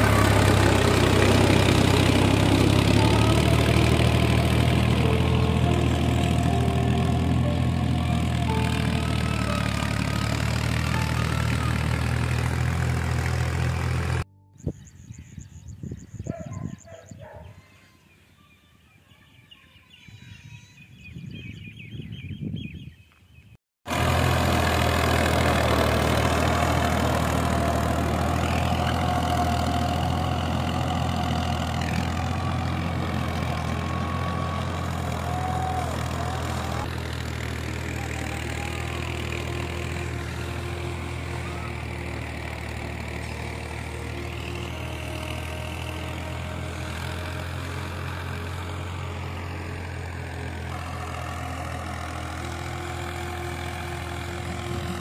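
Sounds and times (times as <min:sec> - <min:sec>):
tractor diesel engine idling: 0:00.0 - 0:14.4, 0:23.9 - 0:55.0
mixed outdoor sounds: 0:00.0 - 0:55.0.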